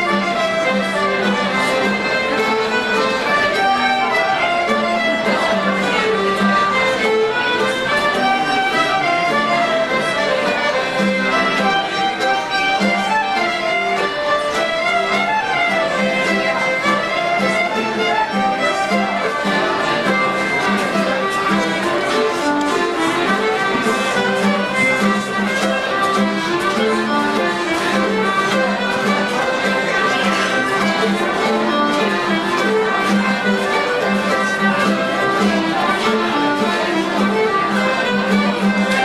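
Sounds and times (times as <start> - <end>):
fiddle-led folk dance music: 0.0 - 39.0.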